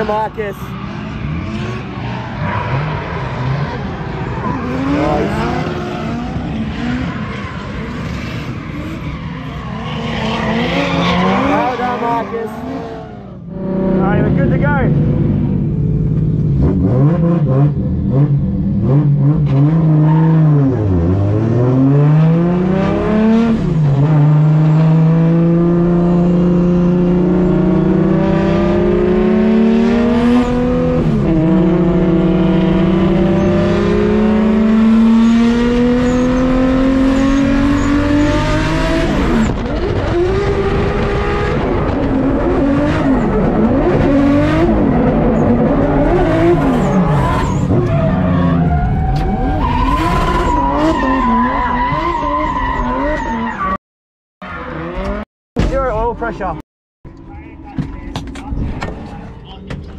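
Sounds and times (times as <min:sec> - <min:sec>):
car engine revving high: 0:00.0 - 0:53.3.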